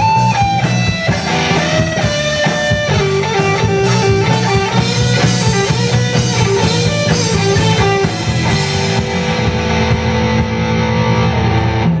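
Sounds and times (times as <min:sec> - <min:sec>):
live rock band: 0:00.0 - 0:12.0.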